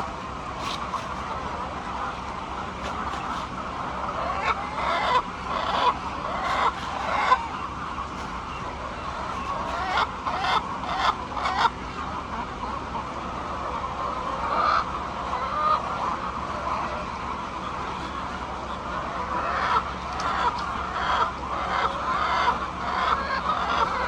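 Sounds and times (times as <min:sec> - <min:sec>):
hens clucking: 0:00.0 - 0:24.0
murmur of flock: 0:00.0 - 0:24.0.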